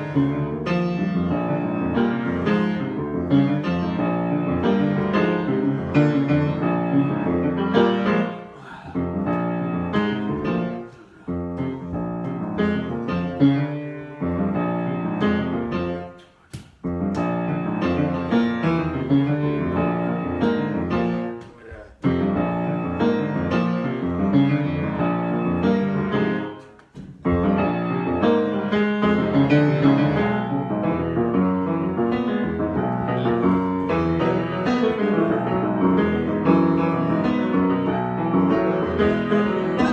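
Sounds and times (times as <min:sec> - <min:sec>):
solo piano improvisation: 0:00.0 - 0:39.9.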